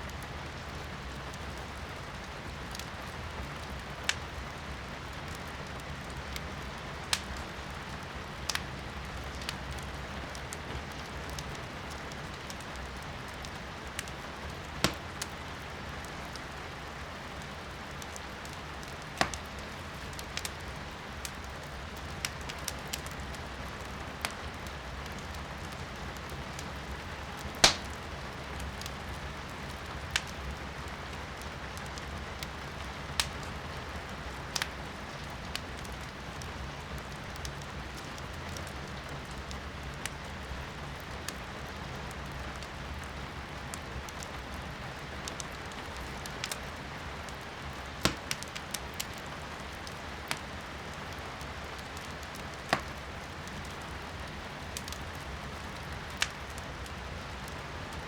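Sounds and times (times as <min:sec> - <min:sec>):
rain hiss from indoors: 0:00.0 - 0:58.0
firewood crackling and popping: 0:00.1 - 0:58.0.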